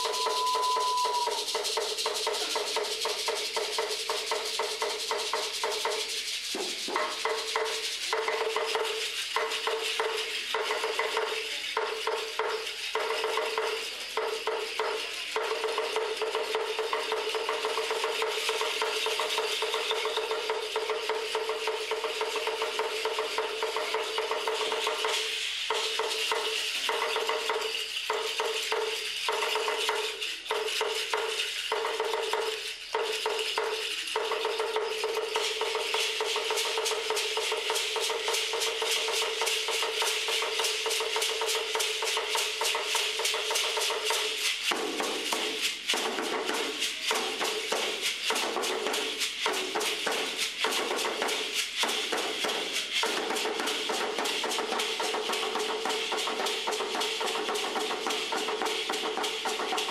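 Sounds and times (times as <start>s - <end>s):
hand rattles shaking: 0.0s - 59.9s.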